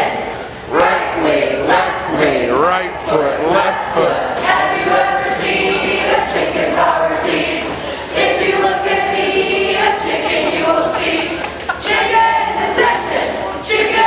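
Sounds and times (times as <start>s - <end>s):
group singing in unison: 0.0s - 14.0s.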